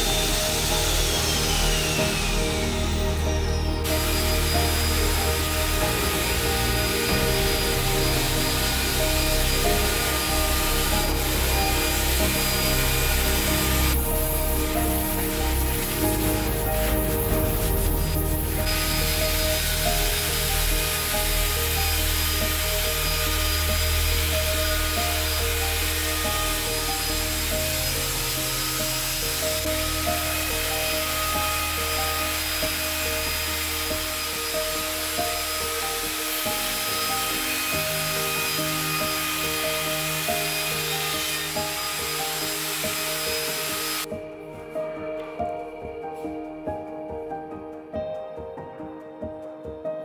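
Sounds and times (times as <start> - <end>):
router cutting wood: 0.0 - 44.1
background music: 0.0 - 50.0.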